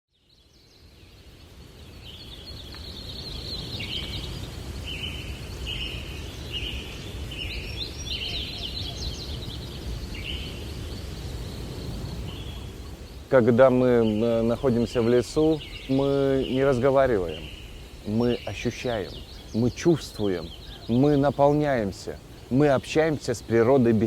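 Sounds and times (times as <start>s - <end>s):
birds chirping and calling: 1.5s - 24.0s.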